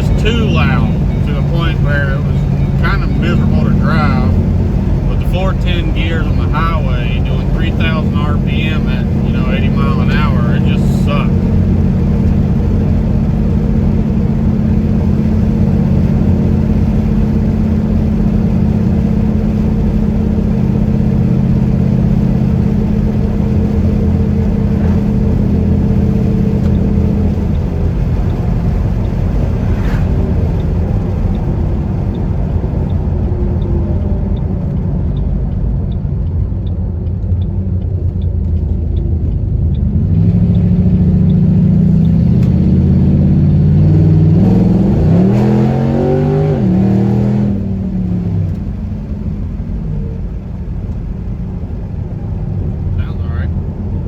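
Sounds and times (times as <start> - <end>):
light regular ticking: 0.0 - 44.4
car engine drone: 0.0 - 54.0.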